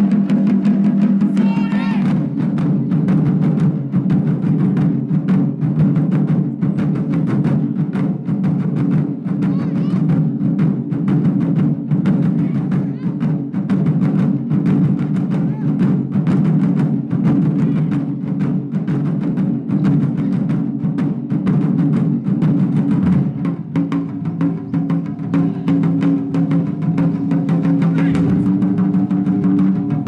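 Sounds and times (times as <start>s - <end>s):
barrel drums beating fast: 0.0s - 30.0s.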